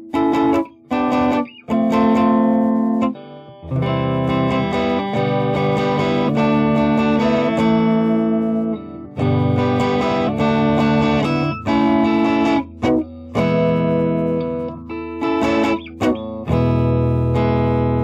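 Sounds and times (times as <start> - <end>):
guitar ringing chords: 0.0 - 18.0.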